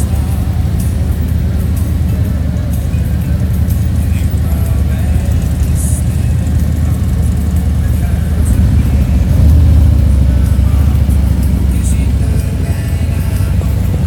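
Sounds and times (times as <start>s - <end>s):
motorcycle engines running low: 0.0s - 14.0s.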